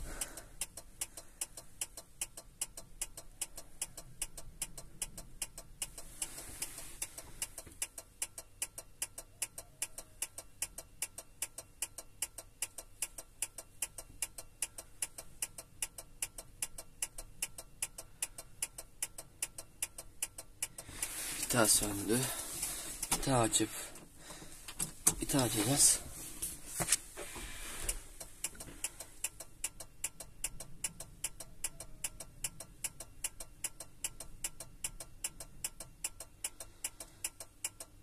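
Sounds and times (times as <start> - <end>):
rapid electrical ticking: 0.0 - 38.0.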